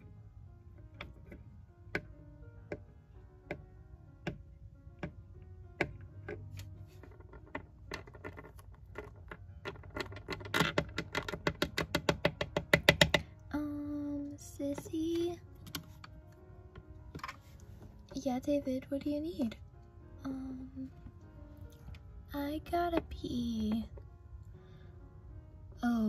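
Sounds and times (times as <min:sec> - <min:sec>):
soft background music: 0:00.0 - 0:26.0.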